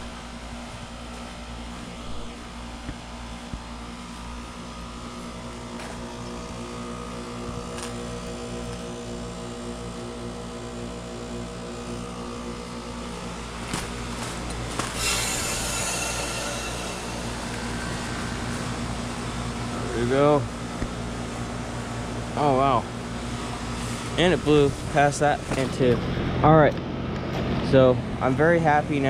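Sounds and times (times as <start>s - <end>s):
heat pump compressor hum: 0.0s - 29.0s.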